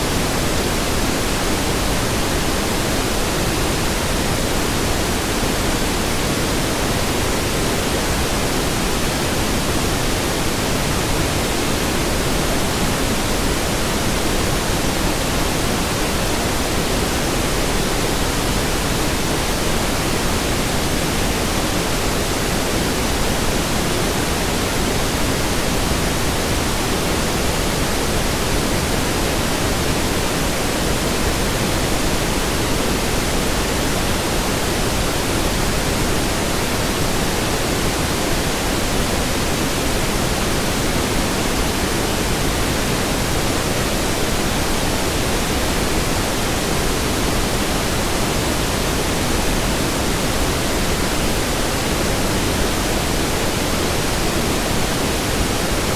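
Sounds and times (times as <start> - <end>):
pink noise hiss: 0.0 - 55.9.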